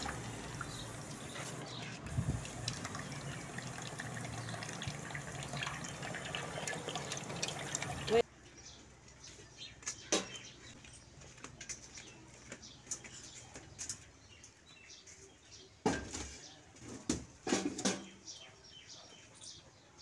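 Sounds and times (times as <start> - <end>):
small birds chirping: 0.0 - 15.8, 18.1 - 20.0.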